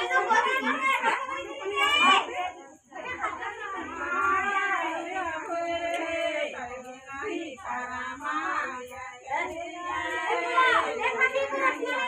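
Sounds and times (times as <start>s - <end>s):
women and girls singing: 0.0s - 12.0s.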